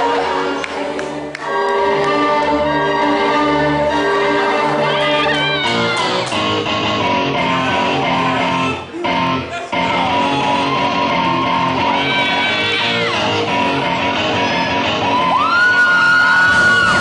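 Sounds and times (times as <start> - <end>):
dance music: 0.0 - 17.0.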